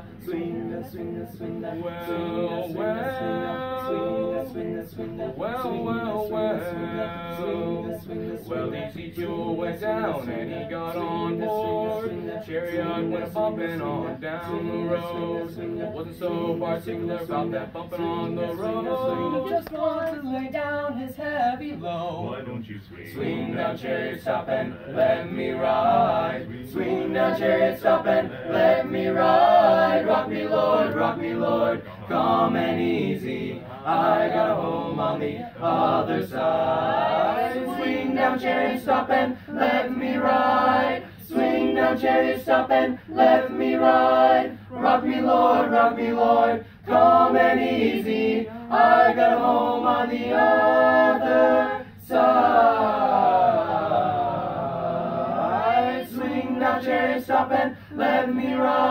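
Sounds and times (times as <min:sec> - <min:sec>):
boys singing in harmony: 0:00.0 - 0:58.9.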